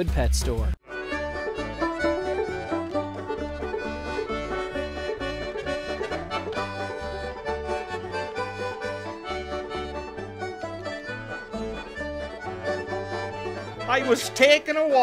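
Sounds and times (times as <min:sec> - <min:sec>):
instrumental music with bouncing bass: 0:00.0 - 0:15.0.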